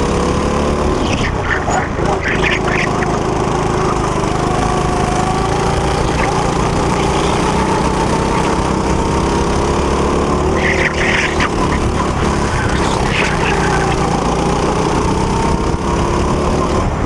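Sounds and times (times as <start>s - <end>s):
go-kart engine running hard: 0.0s - 17.0s.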